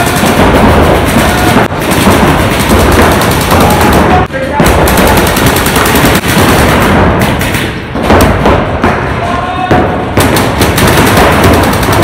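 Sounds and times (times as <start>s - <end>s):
paintball markers firing: 0.0s - 8.9s, 10.2s - 12.0s.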